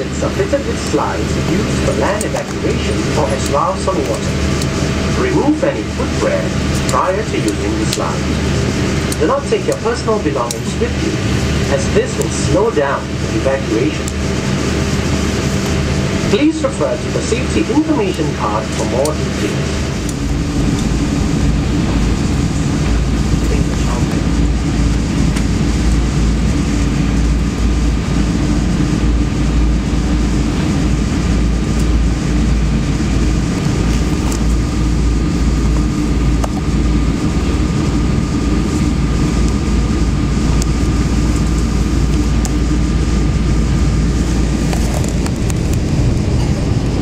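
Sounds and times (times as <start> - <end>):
faint steady whine: 0.0 - 47.0
jet engines running at low power: 0.0 - 47.0
low rumble: 0.0 - 47.0.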